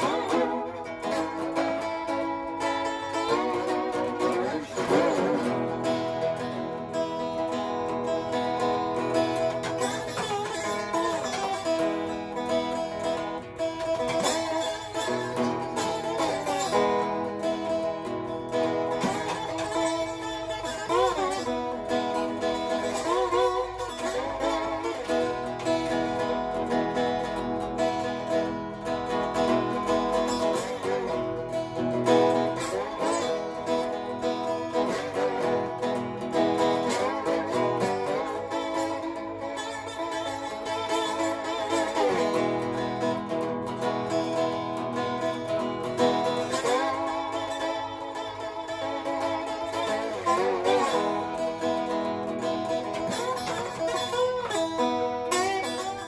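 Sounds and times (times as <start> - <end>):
slide guitar playing: 0.0 - 56.0.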